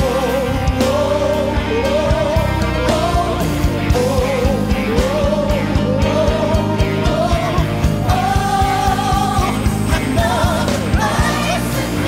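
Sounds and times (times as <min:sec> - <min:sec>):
band accompaniment: 0:00.0 - 0:12.0
fast bass beat: 0:00.0 - 0:12.0.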